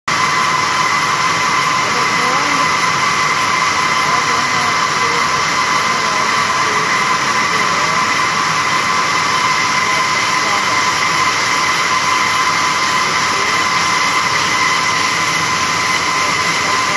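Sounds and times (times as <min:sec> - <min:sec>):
constant high whine: 0:00.1 - 0:16.9
looms running: 0:00.1 - 0:16.9.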